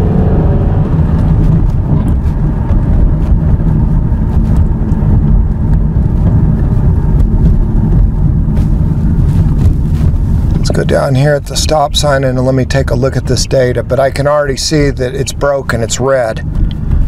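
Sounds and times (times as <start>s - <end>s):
car engine accelerating hard: 0.0s - 17.0s
road noise: 0.0s - 17.0s.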